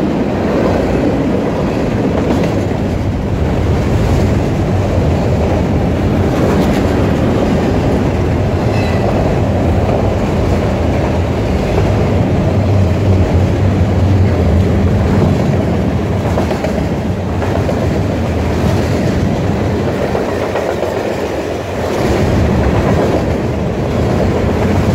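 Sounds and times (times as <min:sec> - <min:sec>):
train cars knocking: 0:00.0 - 0:24.9
train wheels rumbling on rails: 0:00.0 - 0:24.9.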